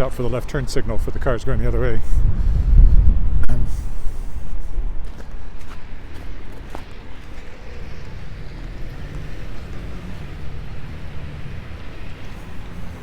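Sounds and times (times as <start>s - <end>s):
street traffic rumble: 0.0s - 13.0s
wind buffeting microphone: 0.0s - 13.0s.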